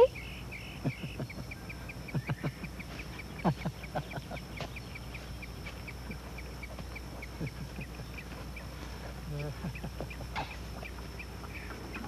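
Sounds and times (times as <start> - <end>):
ducks quacking: 0.0 - 12.0
high insect chirp: 0.0 - 12.0.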